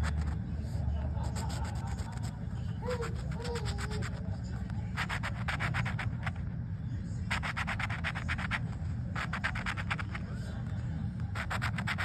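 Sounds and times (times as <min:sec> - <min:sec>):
coin scratching lottery ticket: 0:00.0 - 0:00.4, 0:01.0 - 0:06.5, 0:07.3 - 0:10.4, 0:11.2 - 0:12.0.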